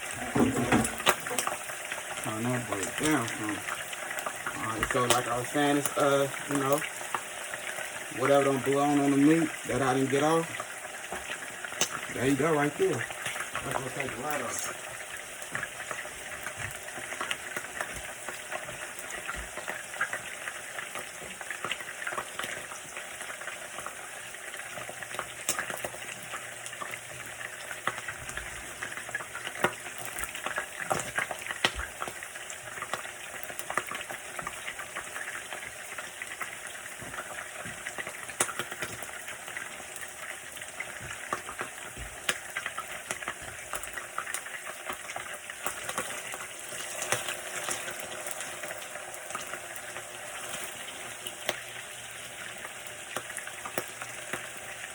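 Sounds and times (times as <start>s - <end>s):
grease sizzling with pops: 0.0s - 54.9s.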